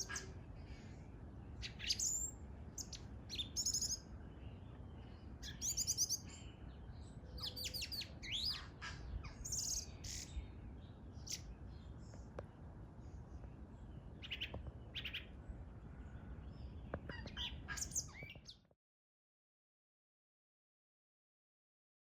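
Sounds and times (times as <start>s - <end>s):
bird singing chirping trills: 0.0s - 18.7s.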